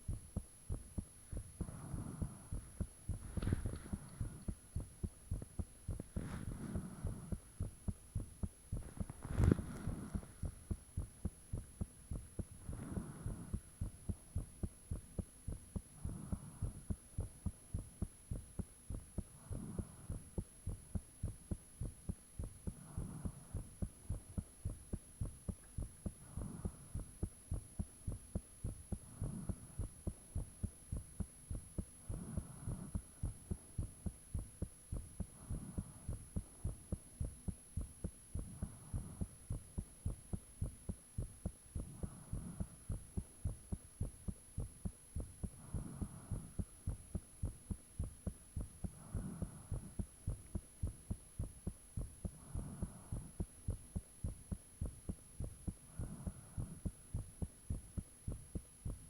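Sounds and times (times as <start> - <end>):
faint high-pitched whine: 0.0 - 59.0
heartbeat thumps: 0.0 - 59.0.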